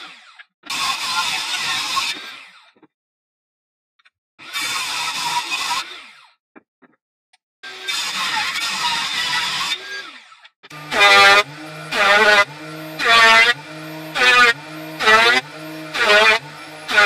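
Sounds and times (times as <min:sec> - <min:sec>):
table saw cutting wood: 0:00.0 - 0:02.8, 0:04.4 - 0:06.4, 0:07.6 - 0:17.0.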